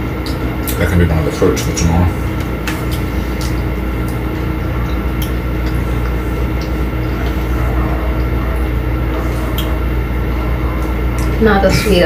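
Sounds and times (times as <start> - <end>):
low droning machine rumble: 0.0 - 12.0.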